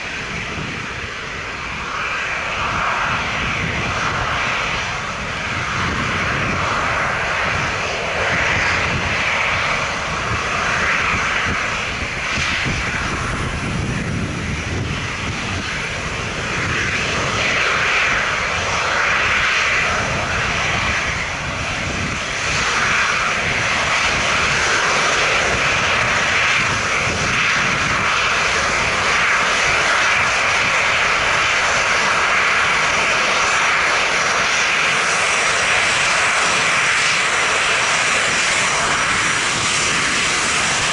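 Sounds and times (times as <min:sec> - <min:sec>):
jet engines taxiing: 0:00.0 - 0:40.9.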